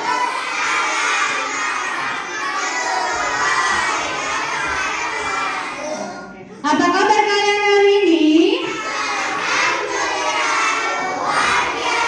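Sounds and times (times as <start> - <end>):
children answering together: 0.0 - 6.7, 8.5 - 12.0.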